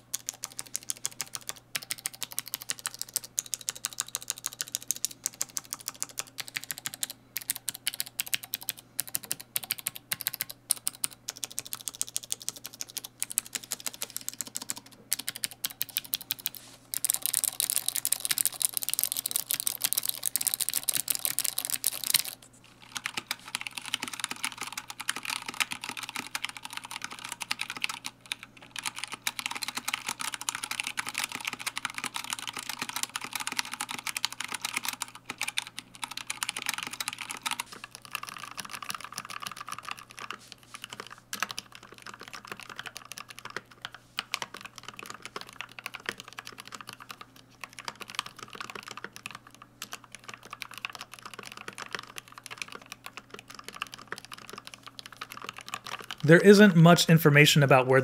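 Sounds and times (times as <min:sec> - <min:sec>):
mechanical keyboard typing: 0:00.0 - 0:56.6.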